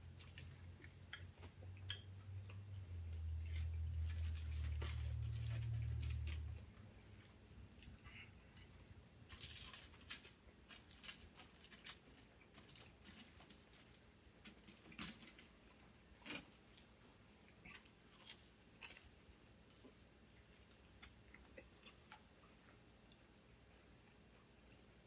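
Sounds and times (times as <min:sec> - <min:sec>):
chewing food clicks and crackles: 0:00.0 - 0:08.7, 0:09.3 - 0:23.2.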